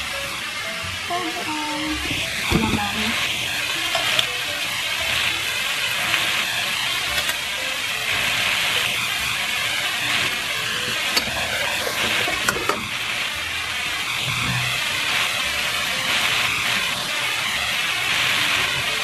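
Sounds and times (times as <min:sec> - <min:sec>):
food sizzling in a pot: 0:00.0 - 0:19.0.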